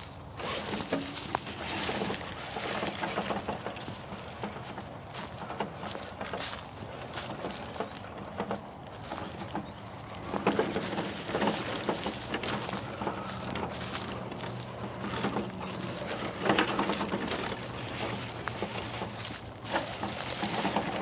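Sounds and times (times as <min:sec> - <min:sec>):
tyres crunching over dry leaves: 0:00.0 - 0:21.0.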